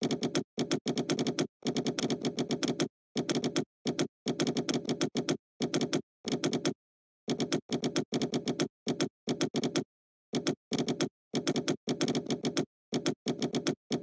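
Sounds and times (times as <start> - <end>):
computer keyboard typing: 0.0 - 14.0.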